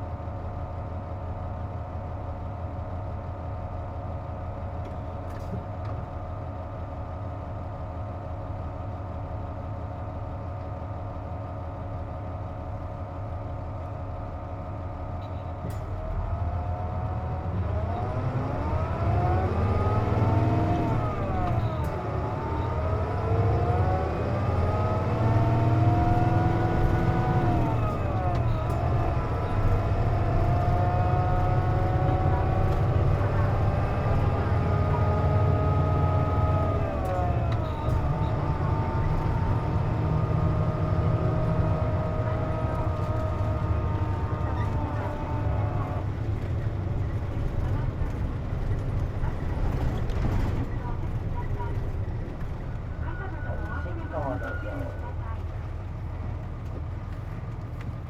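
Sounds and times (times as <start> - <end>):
bus engine whining: 0.0 - 58.0.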